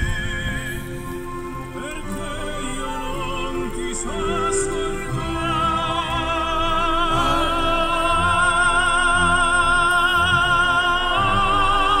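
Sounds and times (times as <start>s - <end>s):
musical accompaniment: 0.0s - 12.0s
operatic singing: 0.0s - 12.0s.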